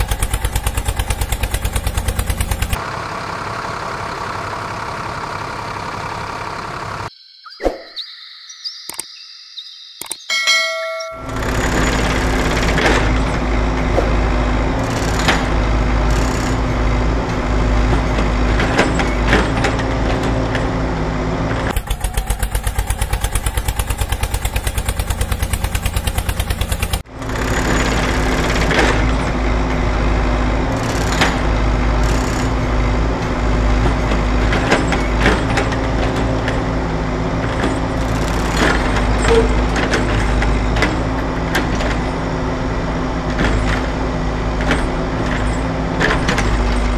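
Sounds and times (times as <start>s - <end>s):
heavy vehicle engine running: 0.0s - 7.1s, 11.1s - 46.9s.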